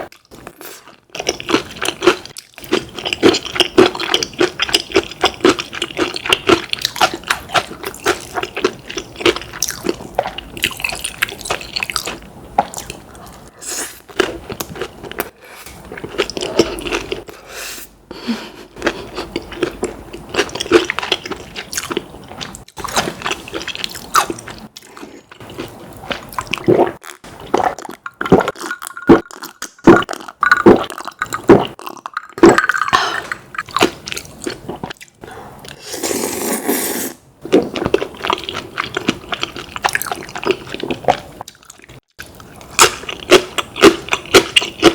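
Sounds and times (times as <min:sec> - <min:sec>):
person chewing food: 0:00.0 - 0:17.4, 0:18.4 - 0:44.9.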